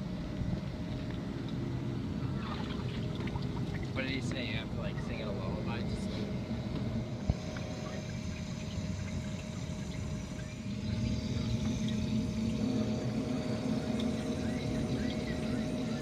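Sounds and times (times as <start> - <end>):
motor humming with faint whine: 0.0 - 16.0.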